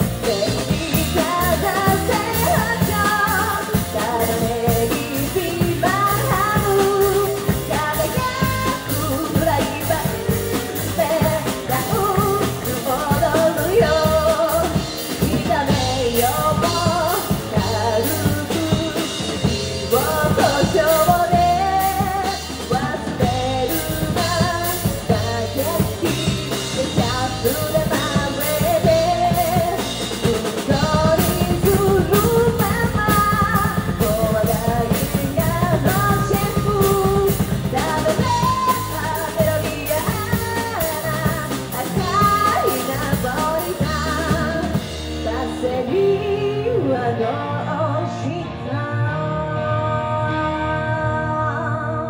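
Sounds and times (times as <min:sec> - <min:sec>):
drum kit: 0:00.0 - 0:48.7
rock band playing: 0:00.0 - 0:52.0
woman singing lead: 0:00.0 - 0:52.0.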